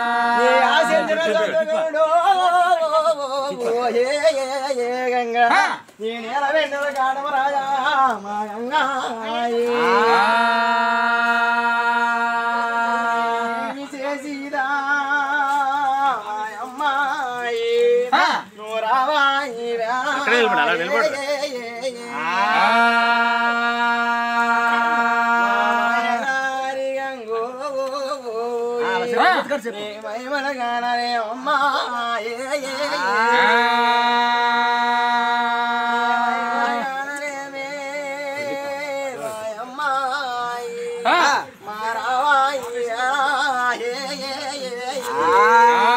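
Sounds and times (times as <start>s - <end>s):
person singing devotional song: 0.0s - 45.9s.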